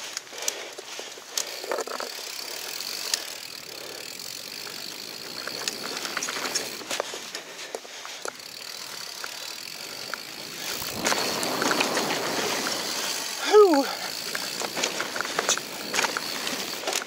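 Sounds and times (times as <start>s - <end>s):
bike clicks and rattles: 0.0s - 17.0s
bike tyre noise on dirt trail: 0.0s - 17.0s.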